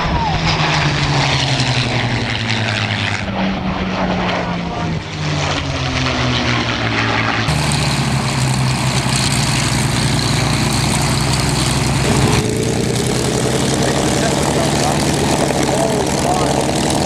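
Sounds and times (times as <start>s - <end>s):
fighter planes flying past: 0.0s - 17.0s
propeller aircraft engine droning: 0.0s - 17.0s.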